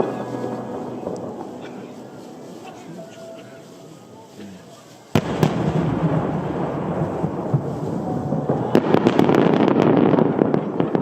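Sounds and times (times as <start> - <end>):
fireworks bursting: 0.0 - 11.0
sharp firework crackles: 0.0 - 11.0.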